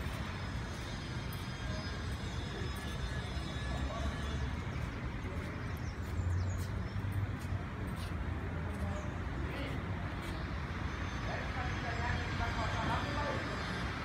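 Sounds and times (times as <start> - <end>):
distant voices: 0.0 - 14.0
traffic rumble: 0.0 - 14.0.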